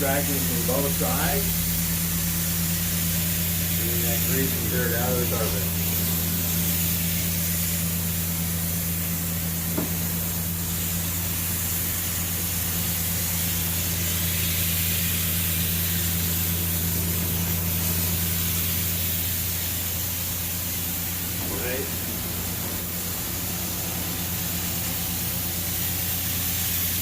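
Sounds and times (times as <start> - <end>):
low machine drone: 0.0 - 14.5, 15.3 - 26.6
spray and vacuum suction hiss: 0.0 - 27.0.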